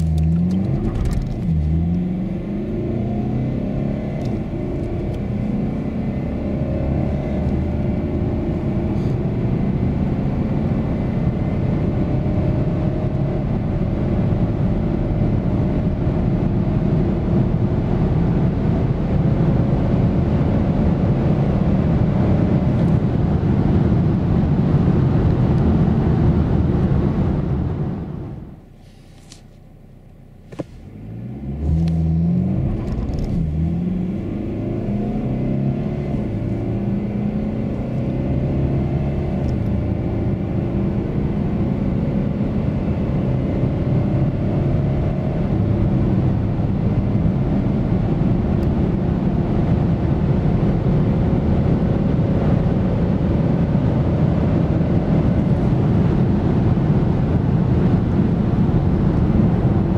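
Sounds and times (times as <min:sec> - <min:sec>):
diesel engine accelerating: 0:00.0 - 0:28.7, 0:29.7 - 0:59.9.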